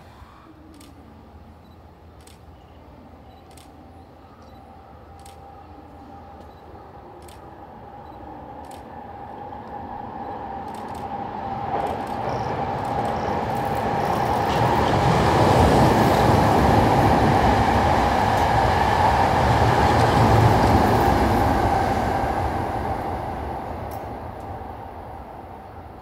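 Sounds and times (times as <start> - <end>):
train passing on track: 0.0 - 26.0.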